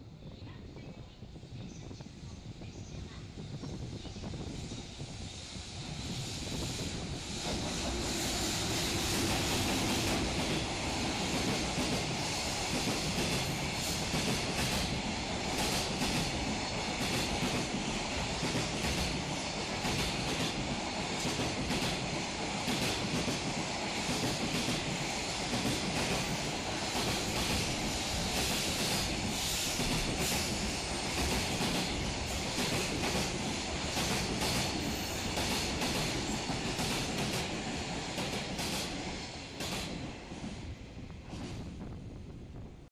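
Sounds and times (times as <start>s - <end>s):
train wheels rushing on rail: 0.0s - 42.9s
wheels clickety-clack on rail joints: 6.8s - 42.8s.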